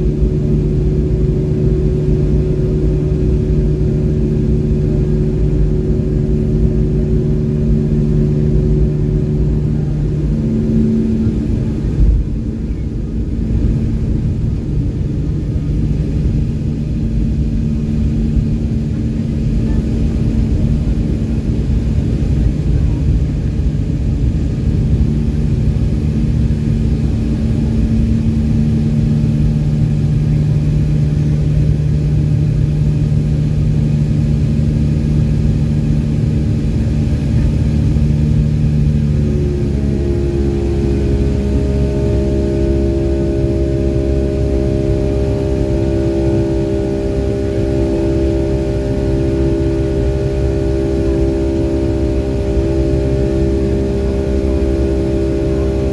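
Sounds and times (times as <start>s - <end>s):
higher hum: 0.0s - 55.9s
jet engines rumbling in cabin: 0.0s - 55.9s.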